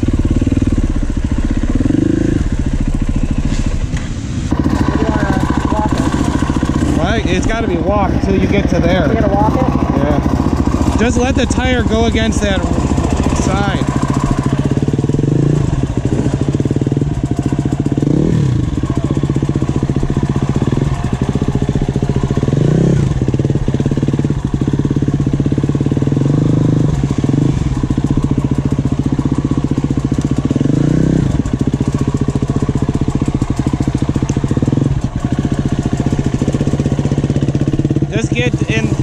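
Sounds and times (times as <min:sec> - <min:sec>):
dirt bike engine idling and revving: 0:00.0 - 0:39.0.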